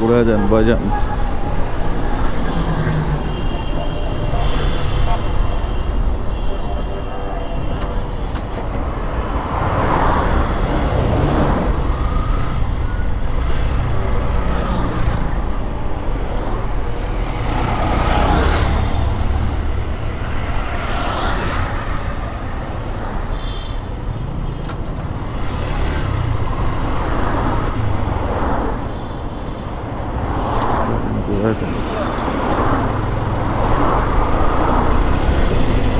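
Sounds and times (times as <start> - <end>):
surrounding traffic: 0.0 - 35.9.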